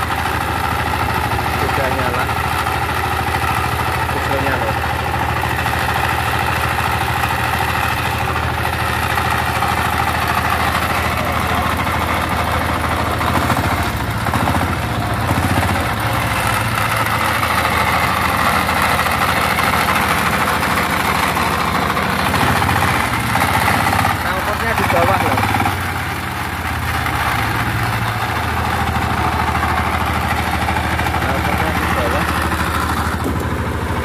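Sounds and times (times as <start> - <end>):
generator diesel engine running: 0.0 - 34.0.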